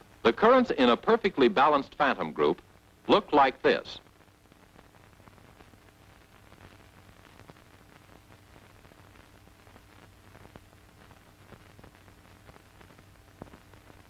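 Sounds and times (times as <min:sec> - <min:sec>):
faint hiss: 0:00.0 - 0:14.0
low steady hum: 0:00.0 - 0:14.0
small crackles: 0:00.0 - 0:14.0.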